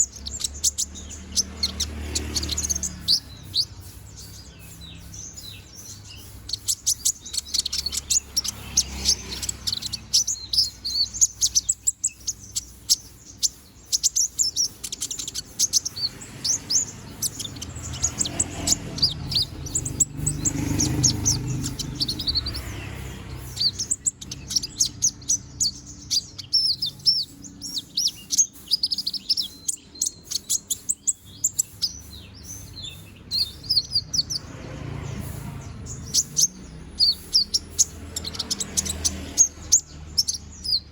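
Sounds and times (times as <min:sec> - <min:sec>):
sunbird chirping and twittering: 0:00.0 - 0:40.9.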